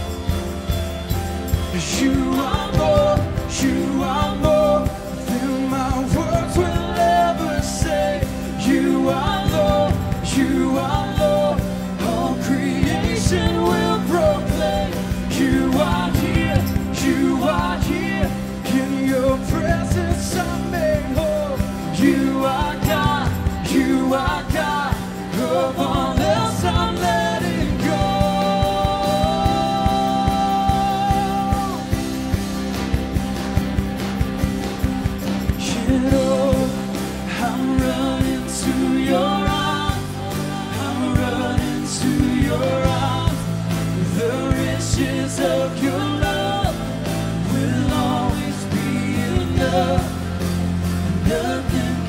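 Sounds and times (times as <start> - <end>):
drums with cymbals: 0.0 - 52.0
live band playing: 0.0 - 52.0
person singing: 1.4 - 32.7, 35.4 - 52.0.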